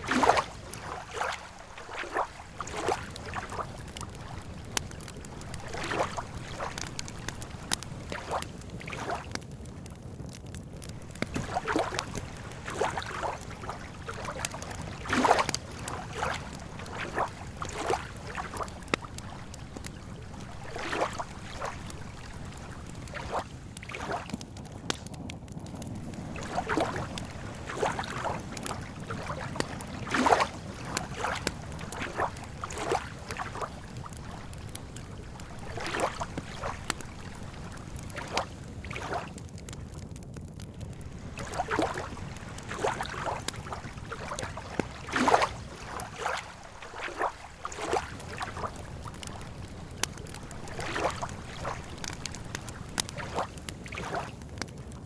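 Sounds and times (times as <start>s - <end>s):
wood campfire crackling: 0.0s - 55.0s.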